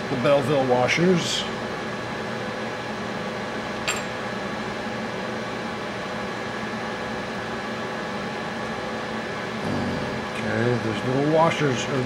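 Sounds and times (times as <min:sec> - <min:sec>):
steady machine hum with tones: 0:00.0 - 0:12.0.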